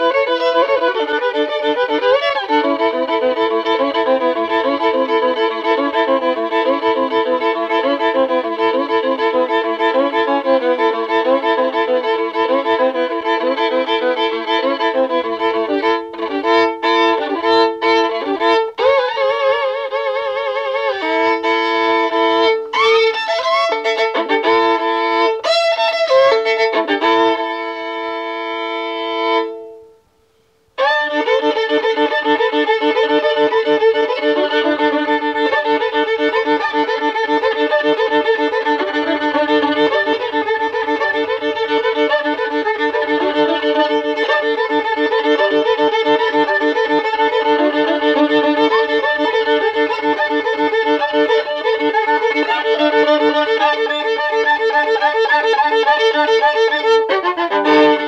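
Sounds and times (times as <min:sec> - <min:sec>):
solo fiddle playing: 0:00.0 - 0:58.0.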